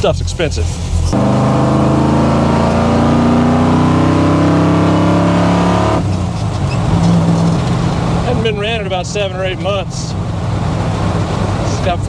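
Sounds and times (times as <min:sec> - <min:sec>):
truck engine from inside cab: 0:00.1 - 0:12.0.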